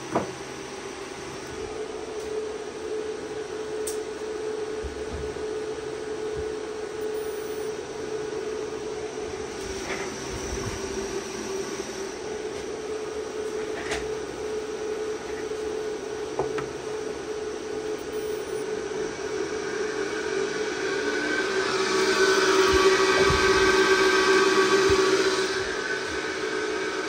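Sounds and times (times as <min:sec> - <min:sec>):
electric motor humming and whining: 0:00.0 - 0:27.0.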